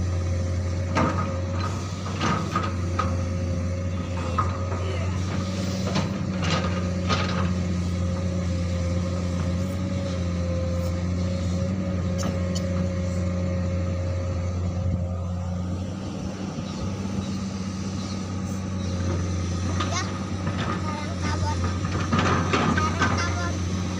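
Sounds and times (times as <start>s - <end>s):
excavator diesel engine humming: 0.0s - 23.9s.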